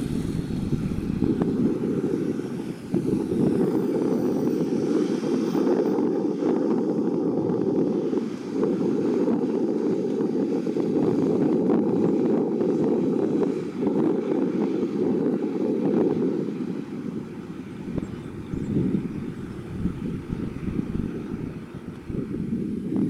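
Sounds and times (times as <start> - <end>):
jet engines roaring: 0.0 - 23.0
wind rumbling on microphone: 0.0 - 23.0.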